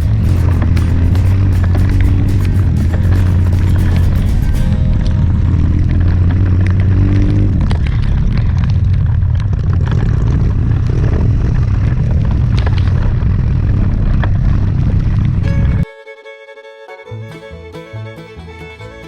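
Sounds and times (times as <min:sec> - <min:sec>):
motorbike engine rumble: 0:00.0 - 0:15.9
wind buffeting on microphone: 0:00.0 - 0:15.9.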